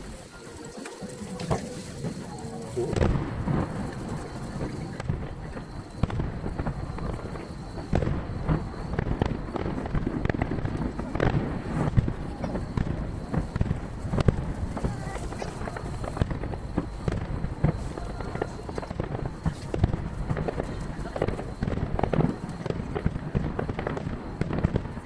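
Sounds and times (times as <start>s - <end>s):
sharp firework cracks: 0.0s - 25.0s
distant firework bangs echoing: 1.3s - 25.0s.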